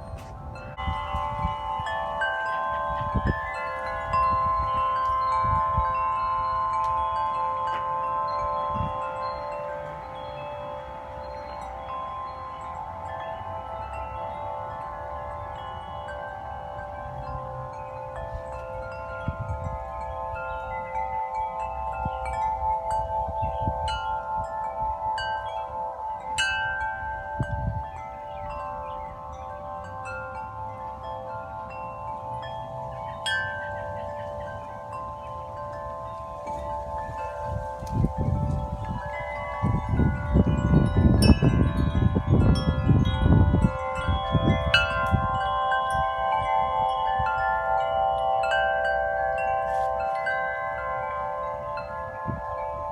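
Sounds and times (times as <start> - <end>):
large wind chimes ringing: 0.0 - 52.9
wind rumbling on microphone: 0.0 - 52.9.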